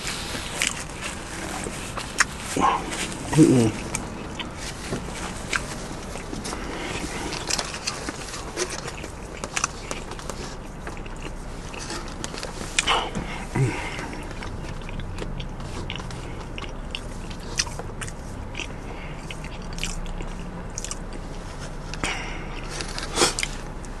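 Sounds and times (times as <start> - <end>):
low steady hum: 0.0 - 24.0
man chewing food: 0.0 - 24.0.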